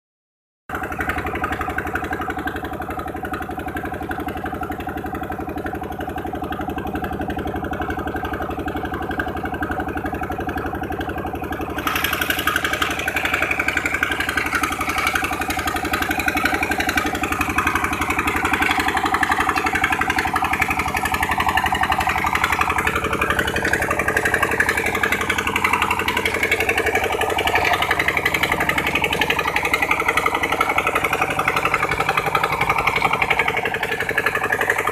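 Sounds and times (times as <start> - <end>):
dredging machine engine running: 0.7 - 34.9.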